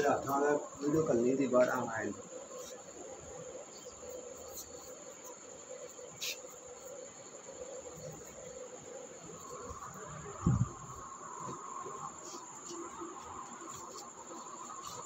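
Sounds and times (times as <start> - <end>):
high-pitched insect-like trill: 0.0 - 15.0.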